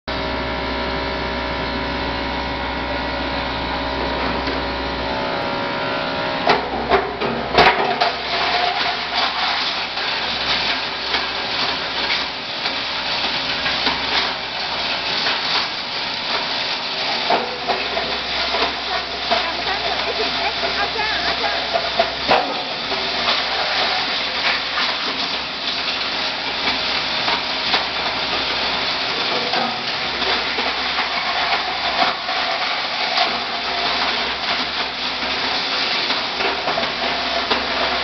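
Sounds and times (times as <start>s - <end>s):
granulator hum and whine: 0.1s - 38.0s.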